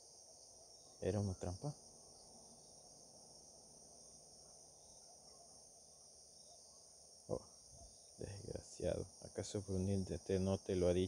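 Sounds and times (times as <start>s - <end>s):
faint high-pitched hiss: 0.0s - 11.0s.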